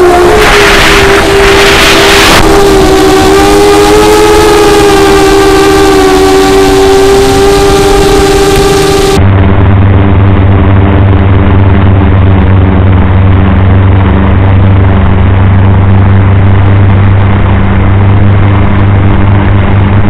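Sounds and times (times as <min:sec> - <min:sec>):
drone motors and propellers whining: 0:00.0 - 0:20.0
dull low hum: 0:00.0 - 0:20.0
wind rushing over microphone: 0:00.0 - 0:20.0.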